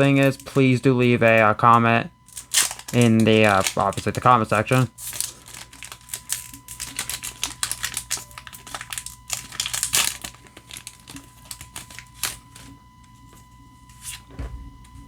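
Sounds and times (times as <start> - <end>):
foil wrapper crinkling: 0.0 - 12.8.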